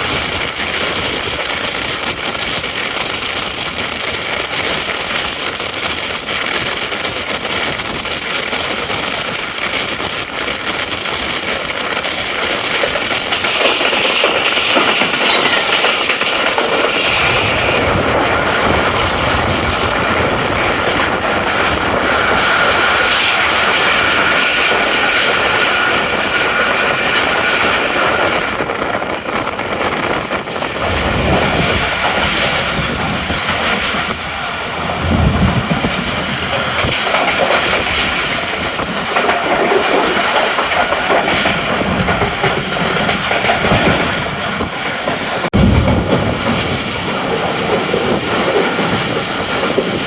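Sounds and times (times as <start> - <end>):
train wheels clattering on rails: 0.0 - 50.0.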